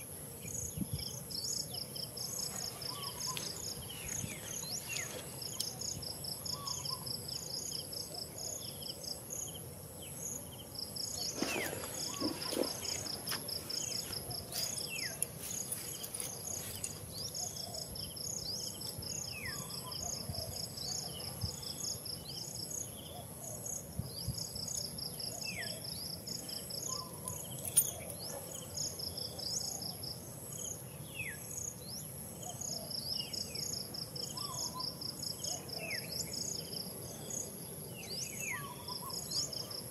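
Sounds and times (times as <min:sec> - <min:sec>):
insects droning and chirping: 0:00.0 - 0:39.9.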